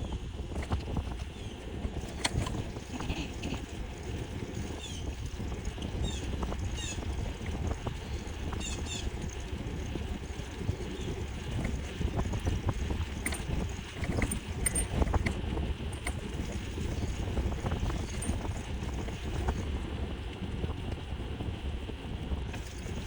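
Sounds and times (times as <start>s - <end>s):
bike clicks and rattles: 0.0s - 23.0s
electric bike rumble: 0.0s - 23.0s
wind buffeting microphone: 0.0s - 23.0s.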